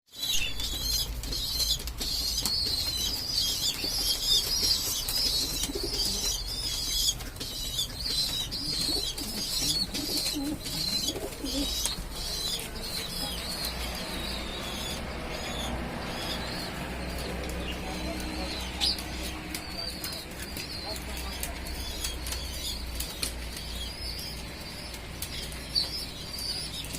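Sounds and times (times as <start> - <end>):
high bird chirping: 0.1 - 26.9
pigeons cooing: 0.3 - 26.9.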